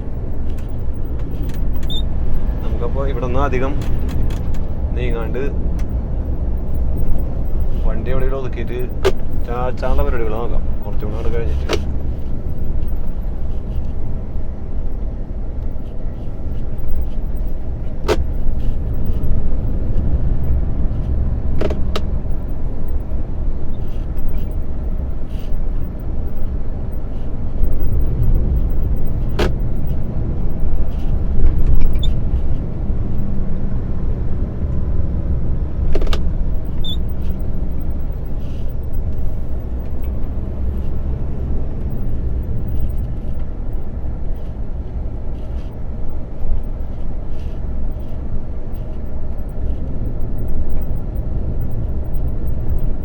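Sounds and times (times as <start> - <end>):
lorry engine and road noise: 0.0 - 53.0.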